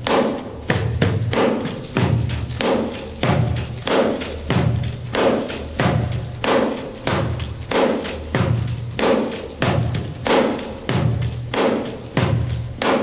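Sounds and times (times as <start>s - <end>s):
tambourine played as hand drum: 0.0s - 13.0s.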